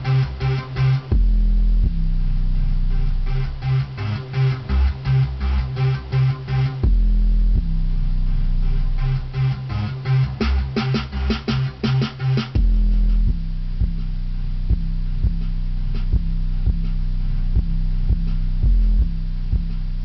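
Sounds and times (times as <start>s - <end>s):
bass-heavy rap music: 0.0s - 20.0s.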